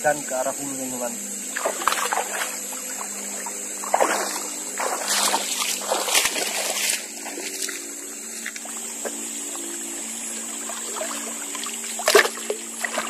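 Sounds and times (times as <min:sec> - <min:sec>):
river water splashing: 0:01.4 - 0:13.0.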